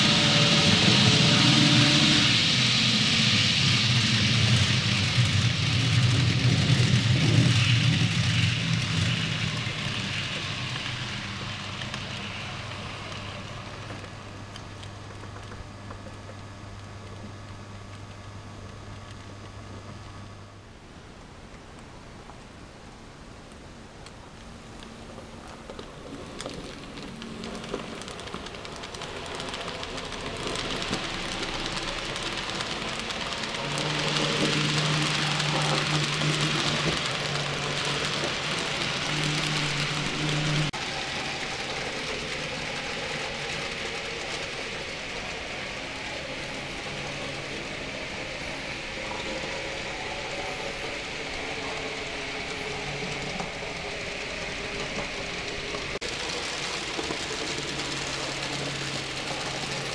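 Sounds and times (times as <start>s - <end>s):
model train wheels rattling on track: 0.0s - 16.4s, 24.8s - 59.9s
locomotive motor humming: 0.0s - 20.6s, 24.8s - 59.9s.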